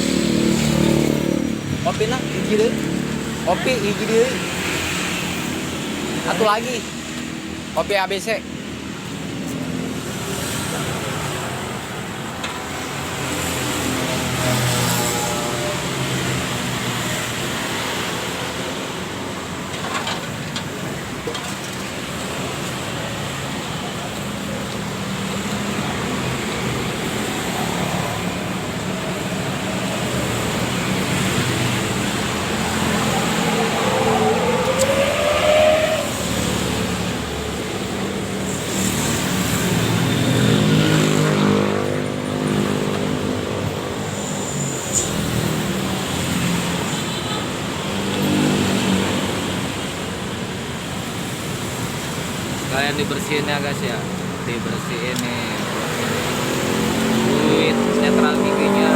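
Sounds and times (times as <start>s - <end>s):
vehicle engines passing by: 0.0s - 58.9s.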